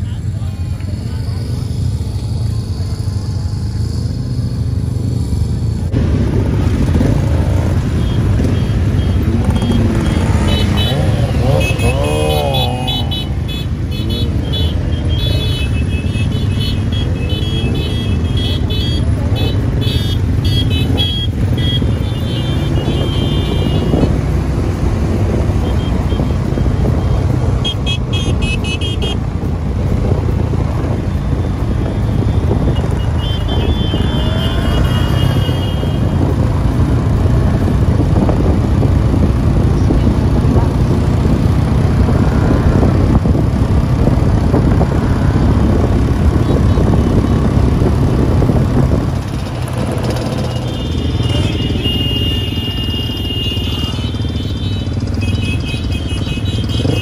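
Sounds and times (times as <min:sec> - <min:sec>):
motorcycle engines rumbling: 0:00.0 - 0:57.0.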